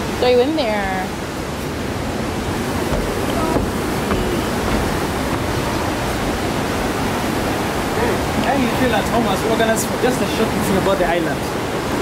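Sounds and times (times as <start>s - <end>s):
white-water rapids rushing: 0.0s - 12.0s.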